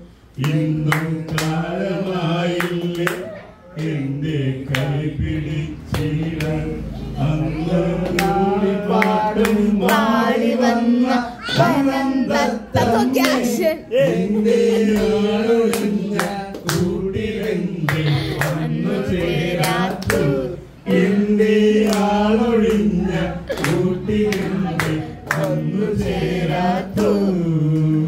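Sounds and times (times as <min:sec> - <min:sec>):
people clapping along: 0:00.4 - 0:06.8, 0:07.8 - 0:10.3, 0:12.8 - 0:28.0
man singing into microphone: 0:00.4 - 0:28.0.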